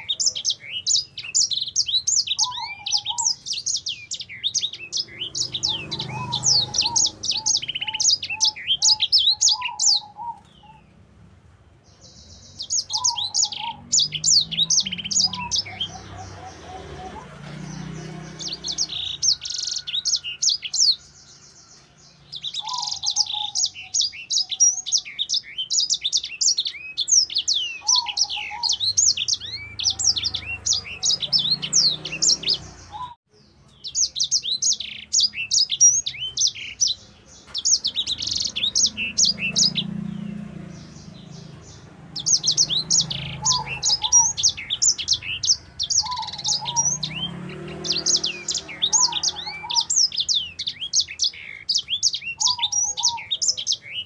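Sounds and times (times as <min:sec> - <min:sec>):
finch twittering song: 0:00.0 - 0:54.0.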